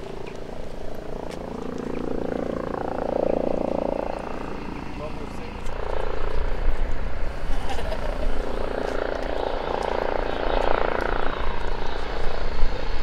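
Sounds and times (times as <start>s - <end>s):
helicopter whining drone: 0.0s - 13.0s.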